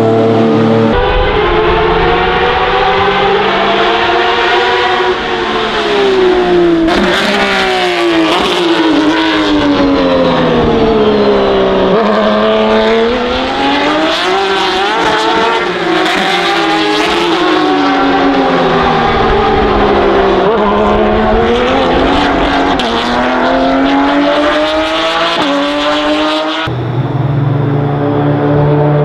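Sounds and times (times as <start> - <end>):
race car engine with gear changes: 0.0 - 29.0.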